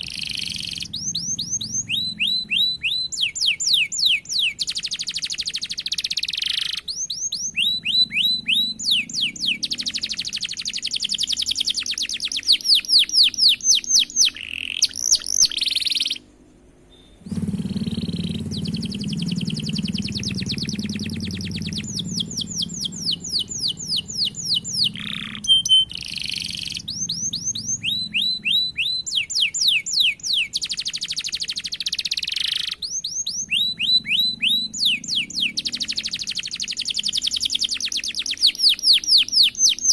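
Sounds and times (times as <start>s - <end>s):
canary singing rolled trills: 0.0s - 39.9s.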